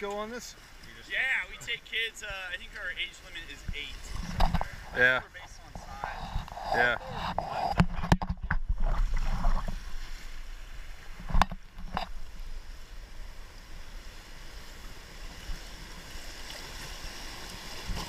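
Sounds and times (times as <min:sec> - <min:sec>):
river water rushing: 0:00.0 - 0:07.8, 0:08.7 - 0:18.0.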